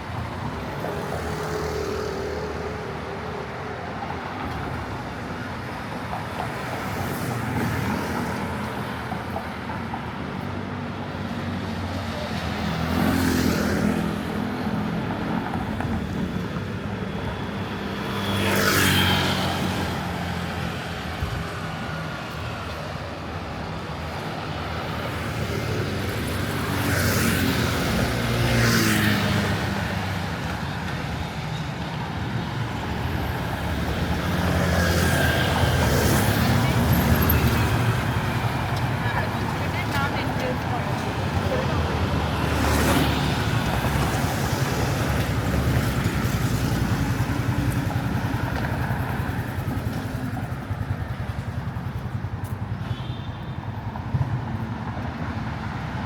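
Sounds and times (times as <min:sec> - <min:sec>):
low rumble of traffic: 0:00.0 - 0:56.0
vehicles passing close by: 0:00.0 - 0:56.0.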